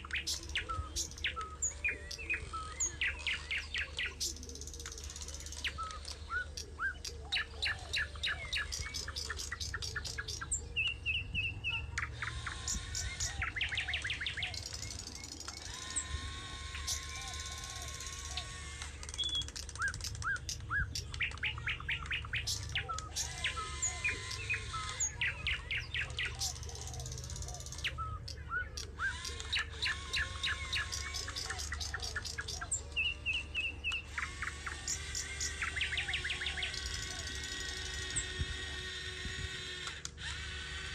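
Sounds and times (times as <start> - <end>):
bird warbling trill: 0.0 - 38.4
songbirds chirping: 0.0 - 40.9.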